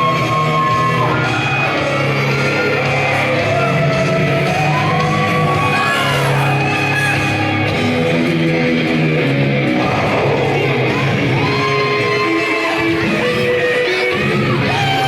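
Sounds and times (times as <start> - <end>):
shouted sung vocals: 0.0 - 8.2, 10.0 - 15.0
loud rock music: 0.0 - 15.0.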